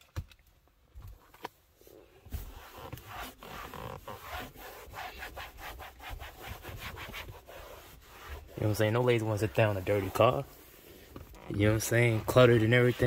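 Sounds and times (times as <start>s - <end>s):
towel wiping leather seat: 1.8s - 13.0s.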